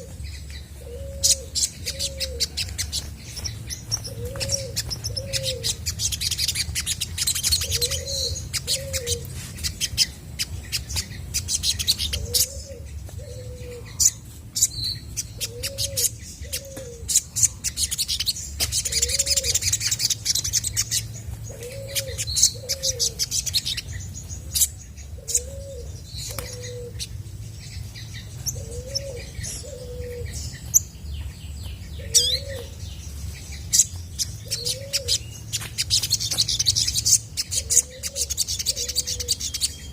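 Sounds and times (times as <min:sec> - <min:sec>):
dove cooing: 0:00.0 - 0:30.8, 0:31.9 - 0:39.9
sunbird chirping and trilling: 0:00.0 - 0:39.9.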